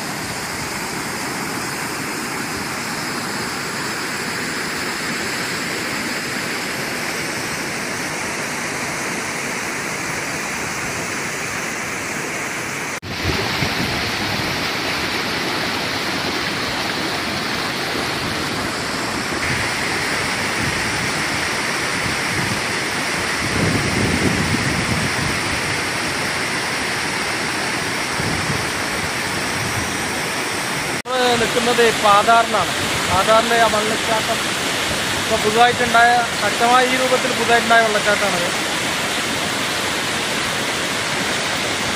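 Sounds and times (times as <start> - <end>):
water rushing over boulders: 0.0 - 41.9.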